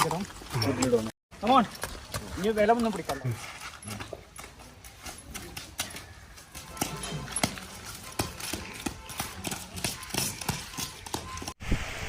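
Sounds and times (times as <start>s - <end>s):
horse hooves clip-clopping: 0.0s - 11.6s.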